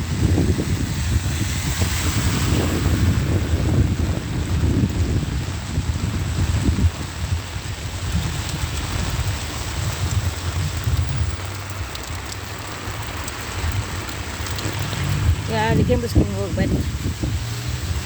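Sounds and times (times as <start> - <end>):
heavy rain falling: 0.0 - 18.0
wind rumble on microphone: 0.0 - 18.0.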